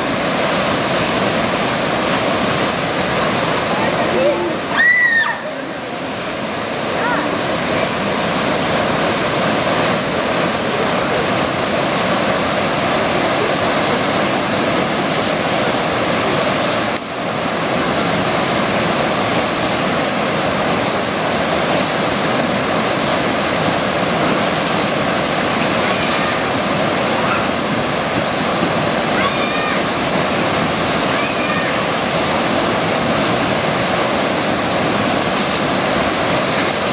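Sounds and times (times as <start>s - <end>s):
whitewater rushing: 0.0s - 36.9s.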